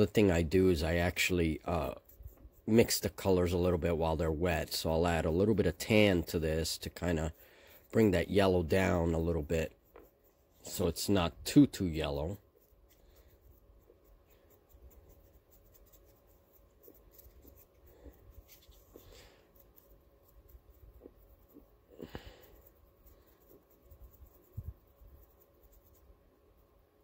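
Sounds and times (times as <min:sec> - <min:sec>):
paintbrush scratching and dabbing: 0:00.0 - 0:27.0.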